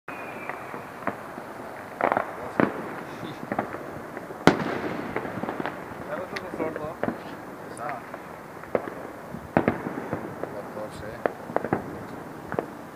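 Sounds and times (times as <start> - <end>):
fireworks bangs and pops: 0.1 - 12.9.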